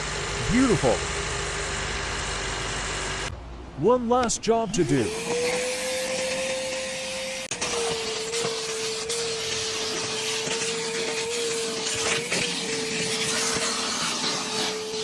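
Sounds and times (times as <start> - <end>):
electric motor whining: 0.0 - 3.3, 4.7 - 15.0.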